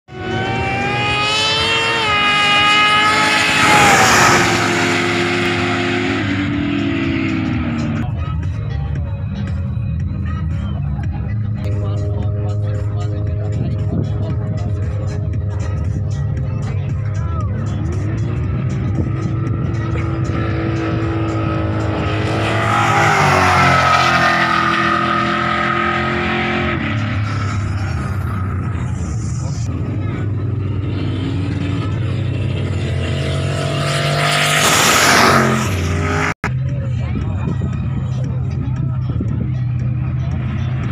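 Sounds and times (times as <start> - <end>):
race car engine at full throttle: 0.1 - 40.9.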